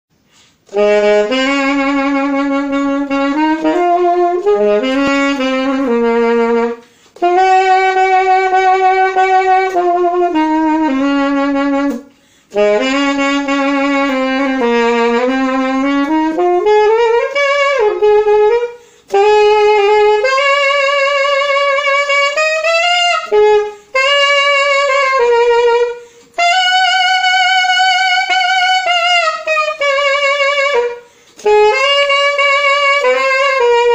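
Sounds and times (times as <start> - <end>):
solo saxophone melody: 0.4 - 33.9.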